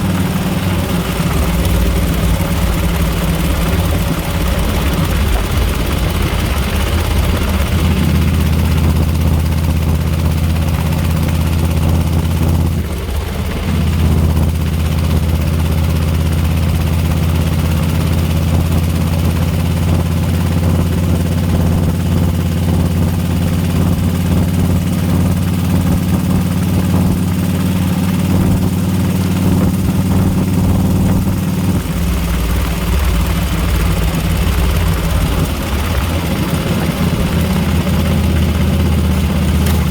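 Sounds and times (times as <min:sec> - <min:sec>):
engine ticking: 0:00.0 - 0:39.9
motorcycle engine running: 0:00.0 - 0:39.9.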